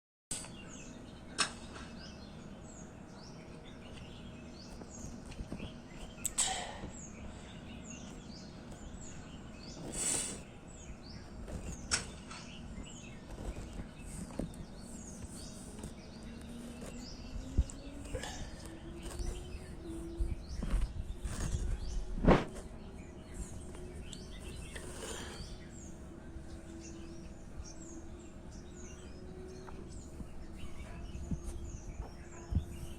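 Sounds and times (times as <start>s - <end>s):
birds chirping and singing: 0.3s - 32.9s
outdoor background noise: 0.3s - 32.9s.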